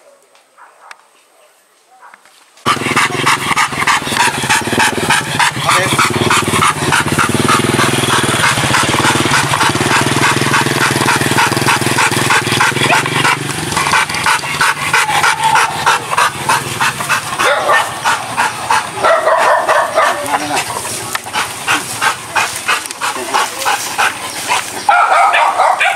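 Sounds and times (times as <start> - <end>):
dog panting: 2.7 - 25.9.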